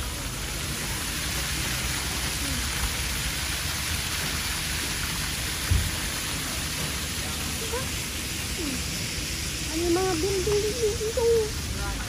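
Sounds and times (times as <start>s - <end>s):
fountain water splashing on paving: 0.0s - 12.0s.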